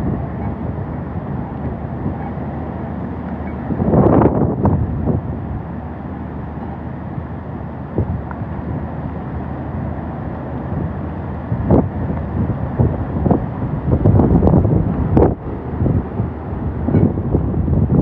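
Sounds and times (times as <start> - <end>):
wind blowing: 0.0 - 18.0
wind buffeting microphone: 0.0 - 18.0.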